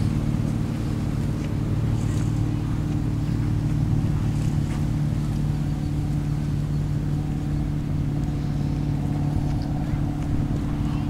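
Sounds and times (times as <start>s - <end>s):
low engine hum: 0.0s - 11.0s
low rumble: 0.0s - 11.0s.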